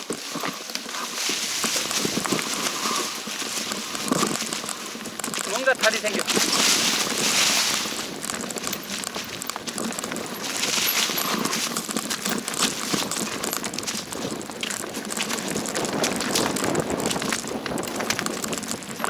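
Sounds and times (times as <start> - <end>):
mountain bike rolling on dirt trail: 0.0 - 19.0.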